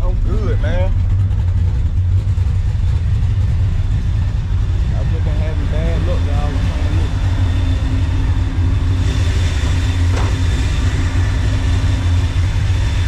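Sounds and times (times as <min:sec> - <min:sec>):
pickup truck engine running: 0:00.0 - 0:13.0.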